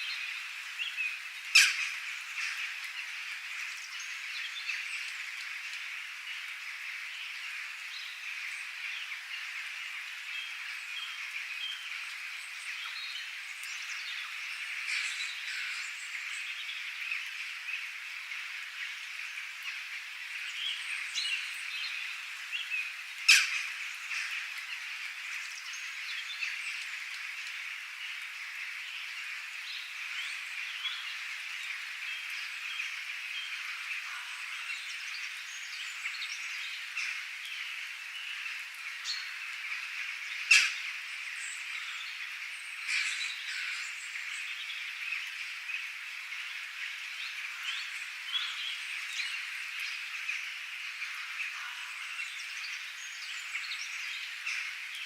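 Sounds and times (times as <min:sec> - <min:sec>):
chorus of birds and animals: 0:00.0 - 0:55.0.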